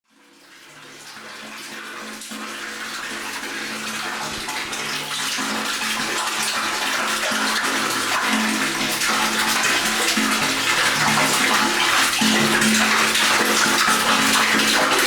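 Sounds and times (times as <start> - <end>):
water pouring into a tank: 0.1 - 15.0.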